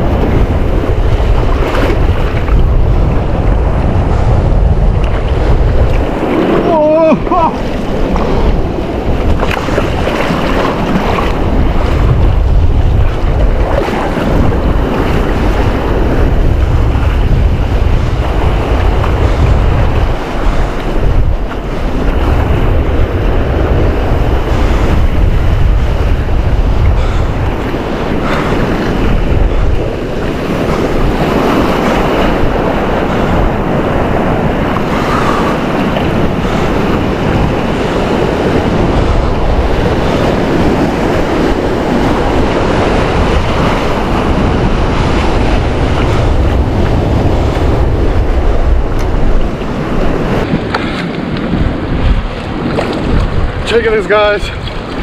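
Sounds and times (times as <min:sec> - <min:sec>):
surf breaking over rocks: 0:00.0 - 0:55.0
wind buffeting microphone: 0:00.0 - 0:55.0.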